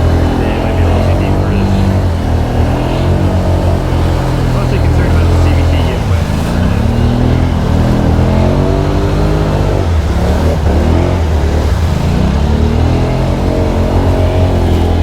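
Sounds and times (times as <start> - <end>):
atv engine revving in mud: 0.0 - 15.0.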